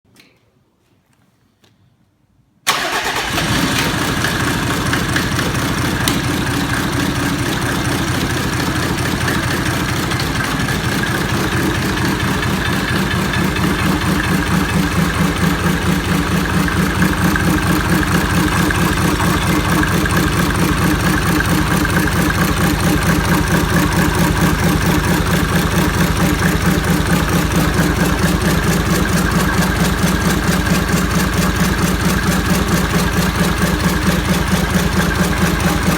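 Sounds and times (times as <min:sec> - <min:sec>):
diesel engine idling: 0:02.7 - 0:35.9.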